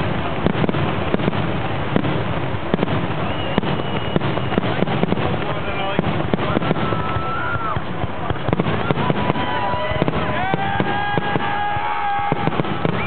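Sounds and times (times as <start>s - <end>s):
distant firework bangs and crackles: 0.0s - 13.0s
firework whistling tones: 0.0s - 13.0s.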